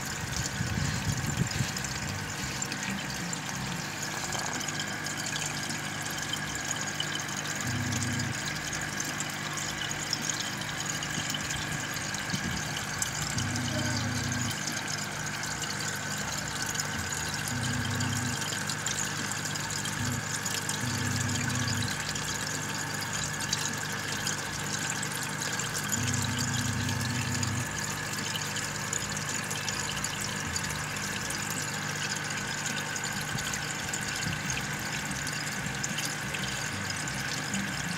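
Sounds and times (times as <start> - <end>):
air pump humming: 0.0 - 37.9
aquarium air bubbling: 0.0 - 37.9.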